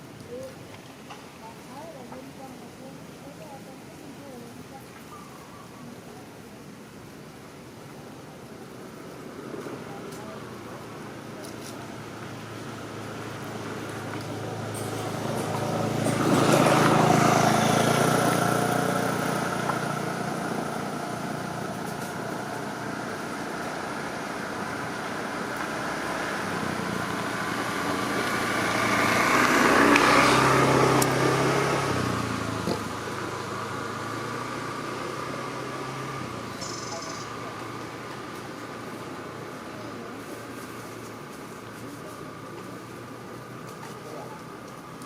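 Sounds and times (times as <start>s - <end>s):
vehicles driving past: 6.6s - 45.0s
low engine hum: 8.0s - 45.0s.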